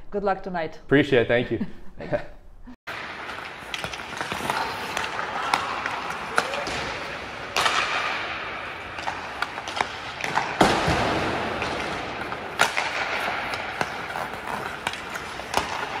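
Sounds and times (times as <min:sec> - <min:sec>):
hockey sticks striking pucks: 0:02.9 - 0:16.0.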